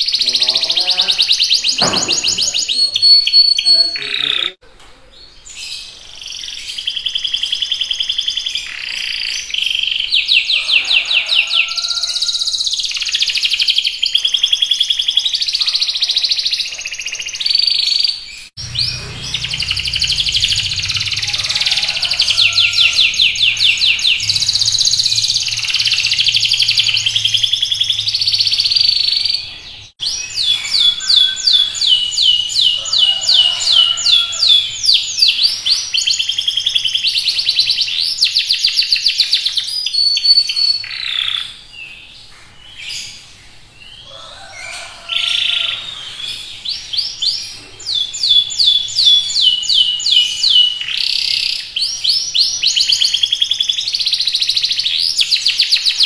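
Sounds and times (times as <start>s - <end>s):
canary singing trills: 0.0s - 4.6s, 5.2s - 56.0s.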